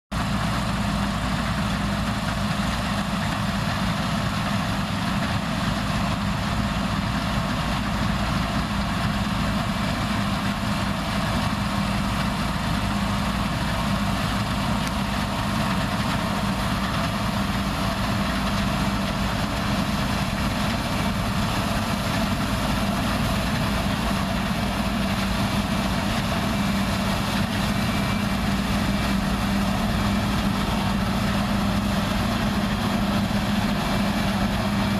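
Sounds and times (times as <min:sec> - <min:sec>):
combine harvester diesel drone: 0:00.1 - 0:34.9.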